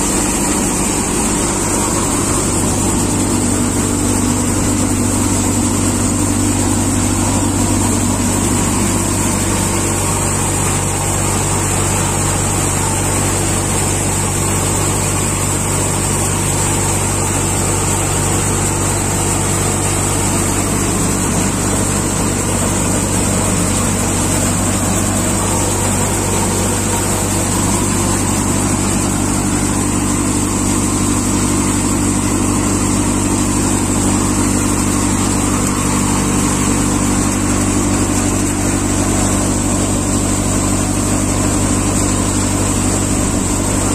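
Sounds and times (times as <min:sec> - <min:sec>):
thresher machine humming: 0:00.0 - 0:43.9.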